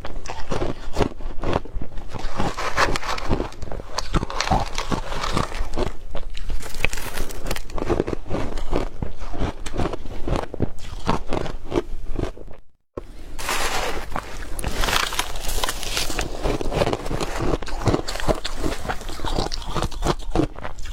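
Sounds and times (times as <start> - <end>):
crushed ice being chewed: 0.0 - 12.6, 13.4 - 20.9.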